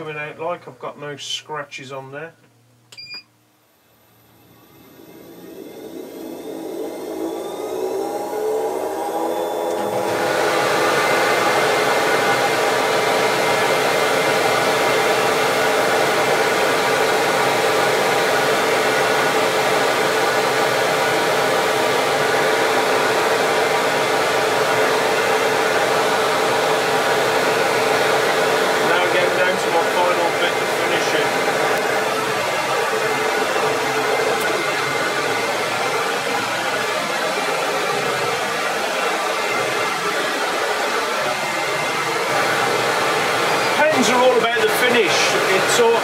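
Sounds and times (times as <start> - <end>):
dust extractor whining and rushing: 4.1 - 46.0.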